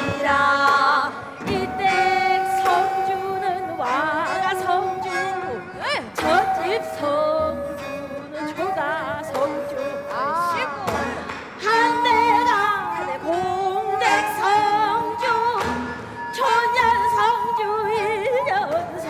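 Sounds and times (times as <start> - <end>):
traditional ensemble playing: 0.0 - 19.0
woman singing with vibrato: 0.0 - 19.0.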